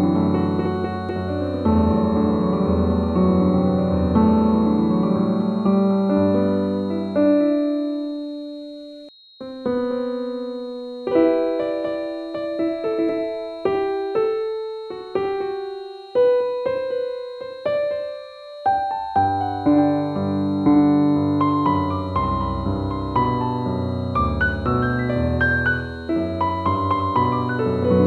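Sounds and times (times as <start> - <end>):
faint steady high tone: 0.0 - 28.0
slow piano music: 0.0 - 28.0.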